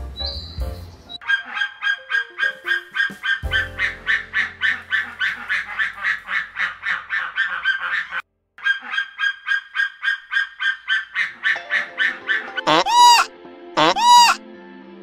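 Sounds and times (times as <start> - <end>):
bird honking calls: 1.2 - 14.4.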